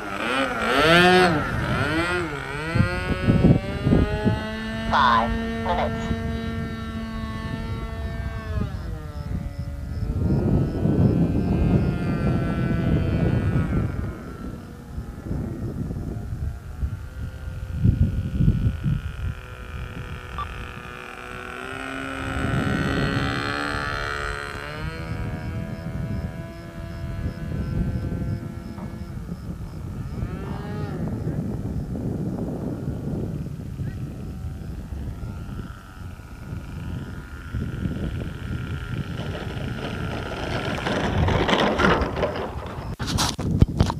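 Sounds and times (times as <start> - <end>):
model plane engine whine: 0.0 - 43.9
wind buffeting microphone: 0.0 - 43.9.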